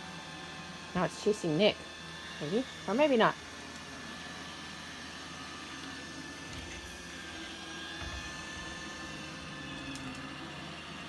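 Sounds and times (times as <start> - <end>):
robot vacuum whirring: 1.0 - 11.0.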